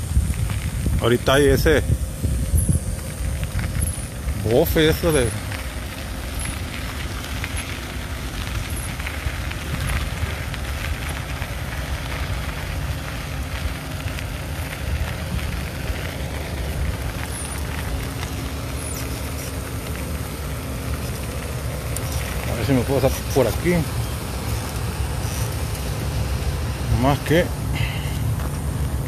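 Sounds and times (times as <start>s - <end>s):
bike tyres crackling on gravel: 0.0s - 29.0s
wind buffeting microphone: 0.0s - 29.0s.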